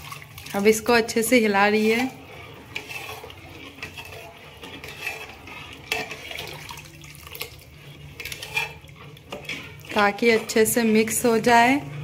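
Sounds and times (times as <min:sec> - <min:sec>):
spoon stirring liquid in a pot: 0:00.0 - 0:12.0.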